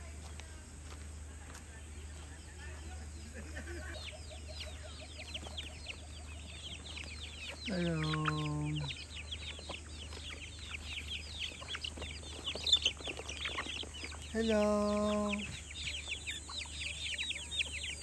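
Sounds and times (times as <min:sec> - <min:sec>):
chickens peeping and clucking: 0:00.2 - 0:18.0.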